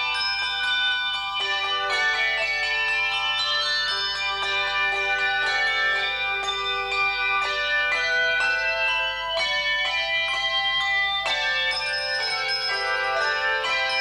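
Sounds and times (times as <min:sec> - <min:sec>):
handbell choir playing: 0:00.0 - 0:14.0.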